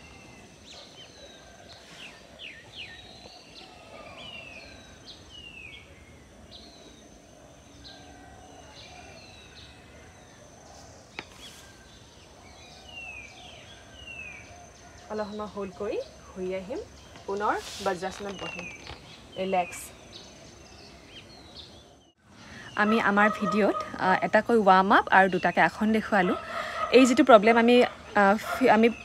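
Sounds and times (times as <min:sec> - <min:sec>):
garden birds chirping: 0:00.0 - 0:29.0.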